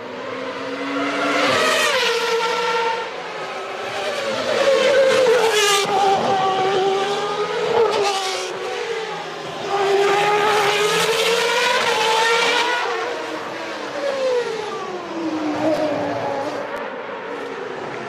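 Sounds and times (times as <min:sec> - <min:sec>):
racing car engines at high revs: 0:00.0 - 0:18.0.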